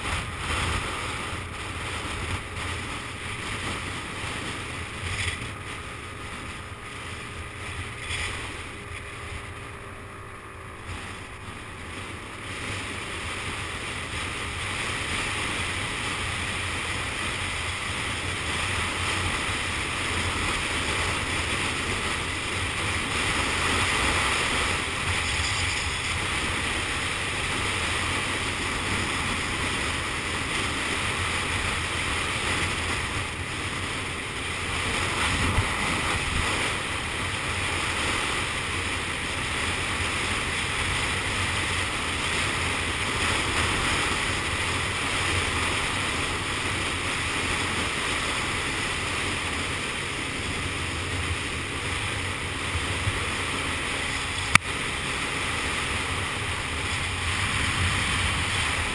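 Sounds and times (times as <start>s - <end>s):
scooter engine running: 0.0s - 58.9s
wind rushing over microphone: 10.7s - 58.9s.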